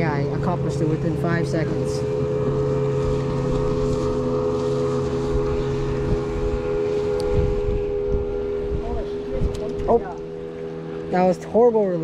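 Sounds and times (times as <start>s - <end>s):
wind rumble on microphone: 0.0s - 11.4s
motorboat engine drone: 0.0s - 12.0s.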